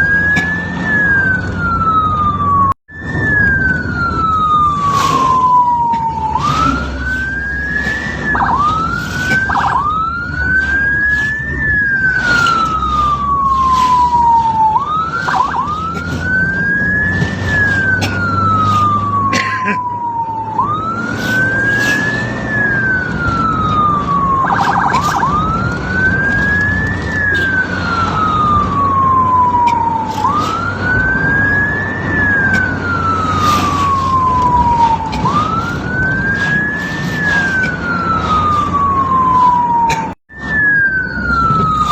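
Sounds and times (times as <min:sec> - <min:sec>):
ambulance siren wailing: 0:00.0 - 0:41.9
vehicle engine and road rumble: 0:00.0 - 0:41.9.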